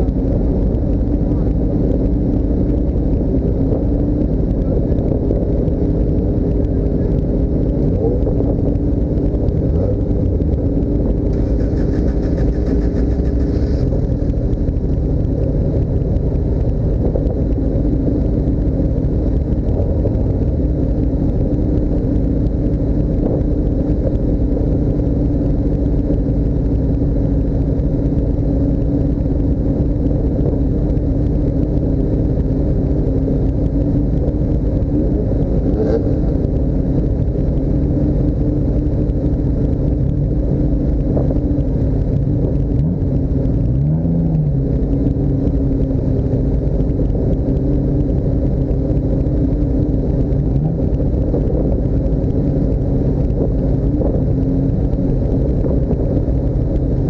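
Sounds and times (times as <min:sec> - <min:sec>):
vehicle engine running steadily: 0:00.0 - 0:57.0.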